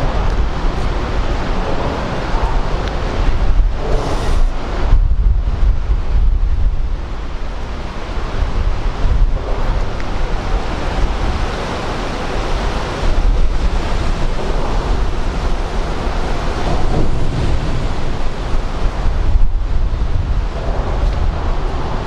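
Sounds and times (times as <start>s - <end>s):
rush of sea water: 0.0s - 22.0s
wind buffeting microphone: 0.0s - 22.0s.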